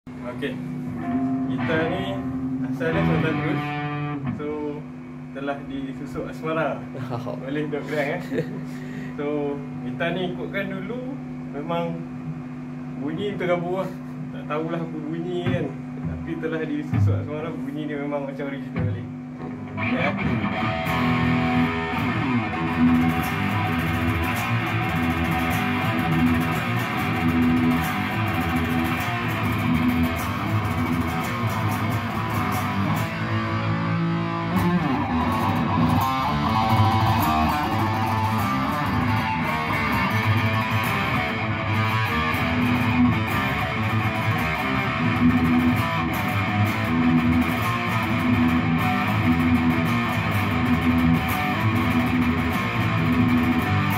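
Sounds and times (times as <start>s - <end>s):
electric guitar riffs: 0.1s - 10.0s, 13.9s - 17.7s, 18.6s - 53.9s.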